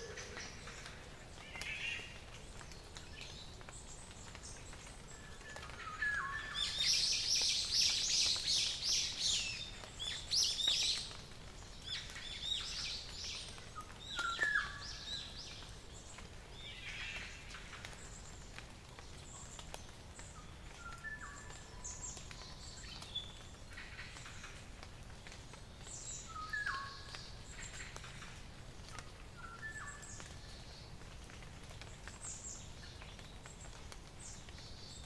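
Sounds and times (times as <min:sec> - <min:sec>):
songbirds singing: 0:00.0 - 0:31.0.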